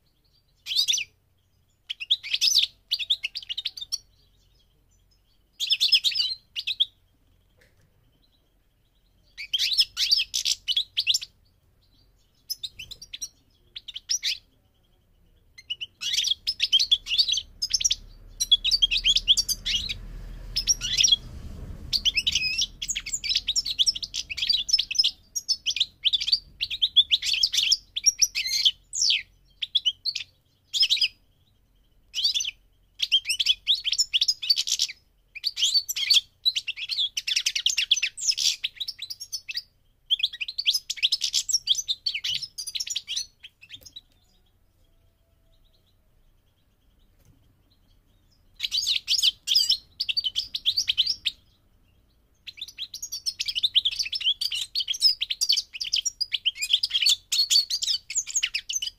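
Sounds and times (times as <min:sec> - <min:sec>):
goldfinch twittering song: 0:00.0 - 0:58.9.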